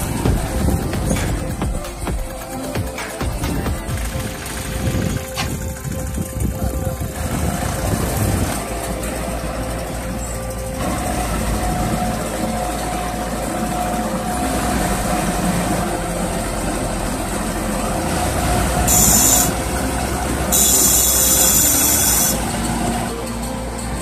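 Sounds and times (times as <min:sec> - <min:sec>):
tractor engine under load: 0:00.0 - 0:24.0.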